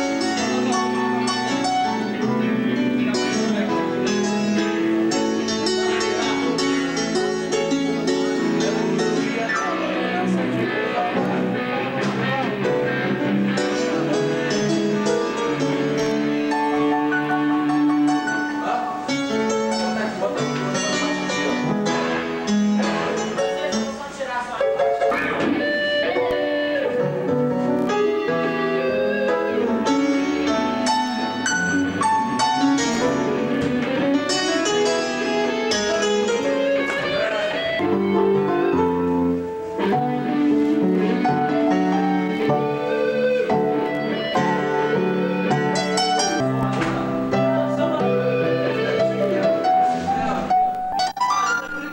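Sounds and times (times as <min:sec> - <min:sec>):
clean electric guitar melody: 0:00.0 - 0:51.9
electronic keyboard playing: 0:00.0 - 0:51.9.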